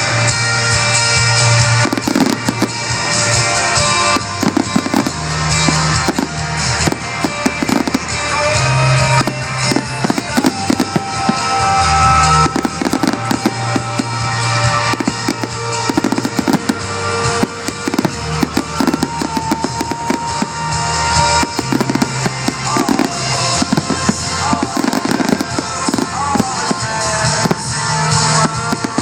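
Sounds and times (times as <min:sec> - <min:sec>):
fireworks bangs and crackles: 0:00.0 - 0:29.0
show music with bass and drums: 0:00.0 - 0:29.0.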